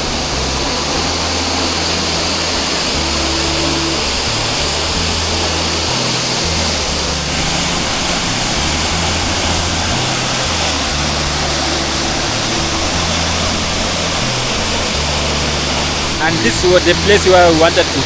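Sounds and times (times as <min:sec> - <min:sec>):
low bass background music: 0:00.0 - 0:18.0
waterfall roar: 0:00.0 - 0:18.0.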